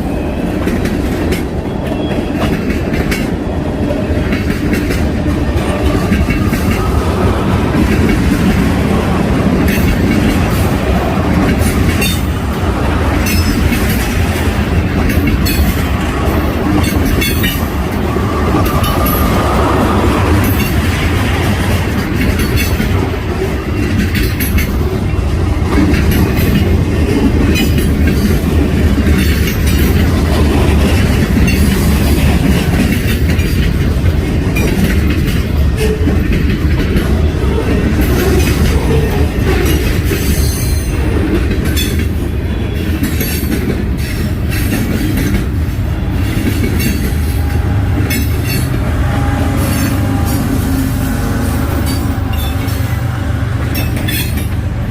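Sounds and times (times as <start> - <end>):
freight train cars rolling: 0.0 - 54.9
wheels clicking over rail joints: 0.6 - 50.5, 53.6 - 54.9.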